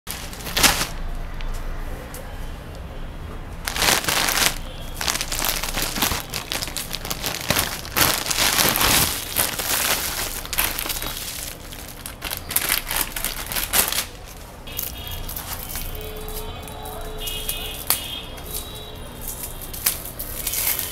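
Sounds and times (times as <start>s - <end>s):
plastic bag and foil crinkling: 0.1s - 1.0s, 3.7s - 20.9s.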